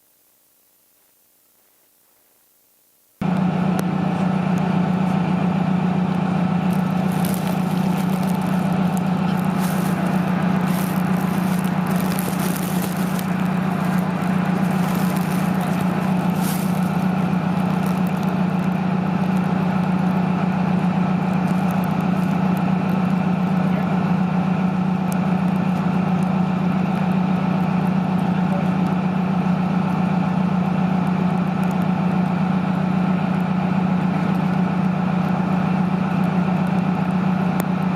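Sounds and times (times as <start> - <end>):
heavy vehicle engine running: 3.2 - 37.9.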